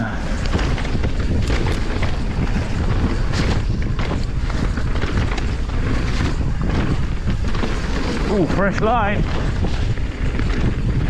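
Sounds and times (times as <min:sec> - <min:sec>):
bike clattering over bumps: 0:00.0 - 0:11.0
tyres rumbling over dirt: 0:00.0 - 0:11.0
wind buffeting microphone: 0:00.0 - 0:11.0.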